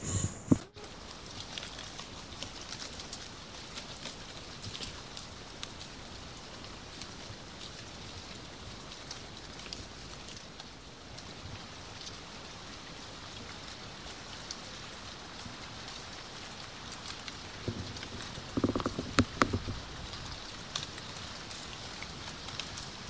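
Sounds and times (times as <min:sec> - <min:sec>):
steady outdoor hiss: 0:00.0 - 0:23.0
leaves pattering on ground: 0:00.8 - 0:23.0.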